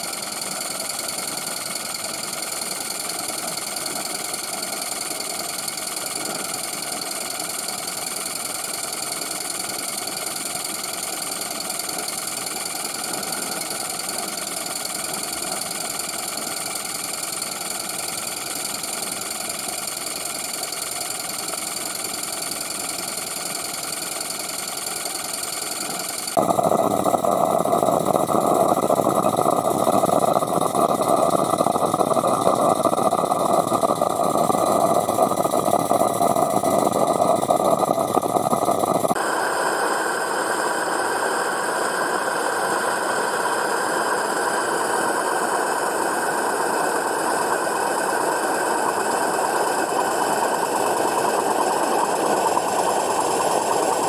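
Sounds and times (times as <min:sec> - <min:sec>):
model steam engine running: 0:00.0 - 0:54.0.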